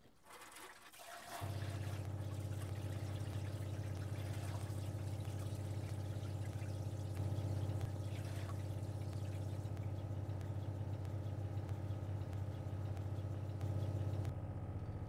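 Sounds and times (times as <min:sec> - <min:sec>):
water pump humming: 0:00.1 - 0:14.3.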